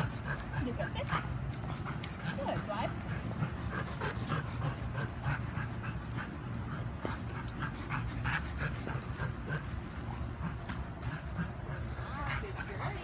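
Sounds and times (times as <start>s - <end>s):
dog panting: 0.0s - 13.0s
low background hum: 0.0s - 13.0s.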